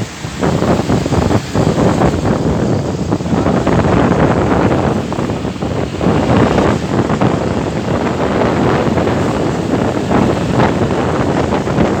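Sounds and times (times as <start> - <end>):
road traffic noise: 0.0 - 12.0
wind buffeting microphone: 0.0 - 12.0.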